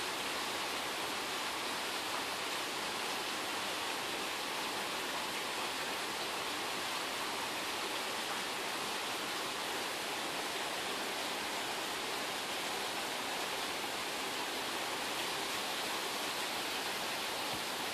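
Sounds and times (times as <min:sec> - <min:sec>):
steady rain hiss: 0:00.0 - 0:17.9.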